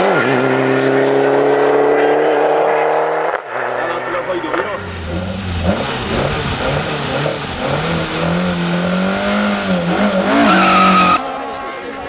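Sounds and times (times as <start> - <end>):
race car engine accelerating: 0.0 - 3.8, 4.5 - 11.2.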